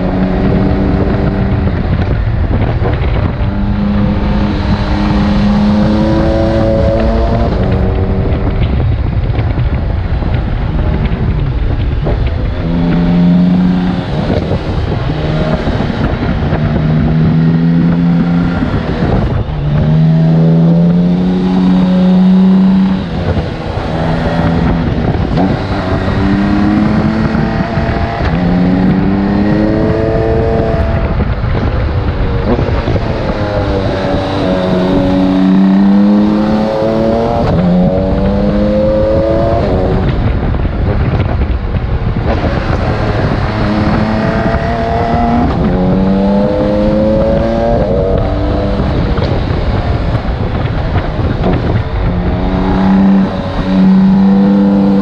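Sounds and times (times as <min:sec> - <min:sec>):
dense rushing noise: 0:00.0 - 0:55.0
motorcycle engine revving: 0:00.0 - 0:55.0.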